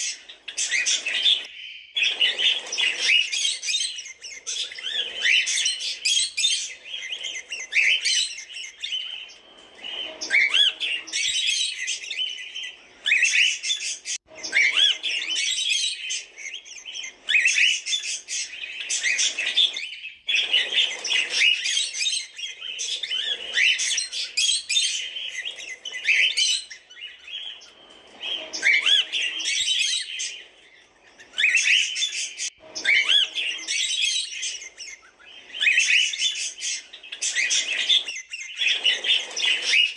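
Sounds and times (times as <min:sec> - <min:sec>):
cockatiels chirping: 0:00.0 - 0:39.9.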